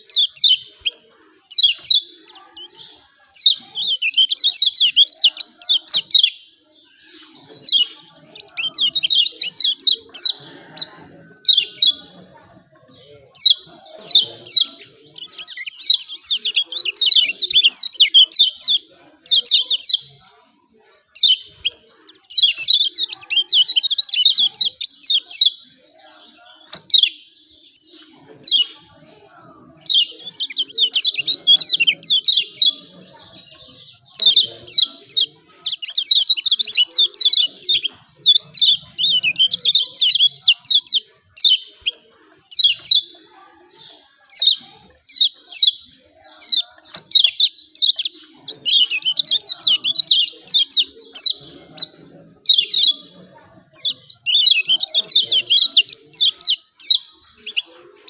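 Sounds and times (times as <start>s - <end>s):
bird chattering calls: 0.0s - 20.2s, 29.5s - 58.0s.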